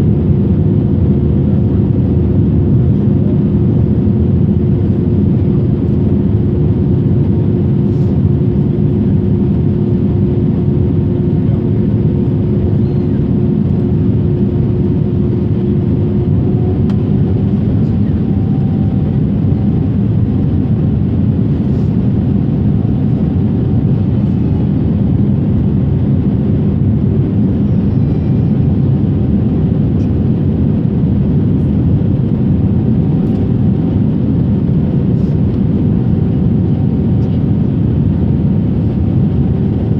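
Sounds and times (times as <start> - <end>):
airliner cabin engine rumble: 0.0 - 39.9
constant hum: 0.0 - 39.9.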